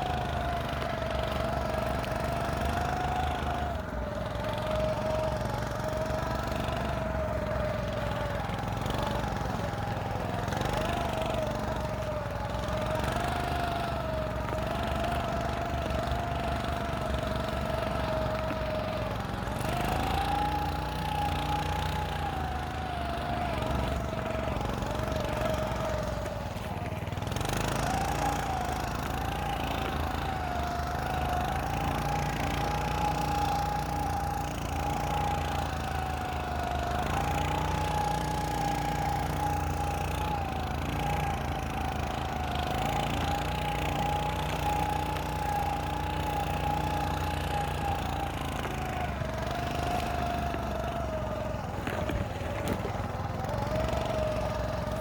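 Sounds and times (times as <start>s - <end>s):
snow scooter engine running: 0.0s - 55.0s.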